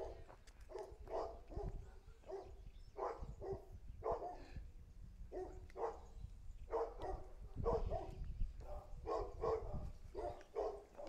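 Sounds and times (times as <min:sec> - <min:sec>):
dog barking: 0:00.0 - 0:04.5, 0:05.3 - 0:06.1, 0:06.7 - 0:11.0.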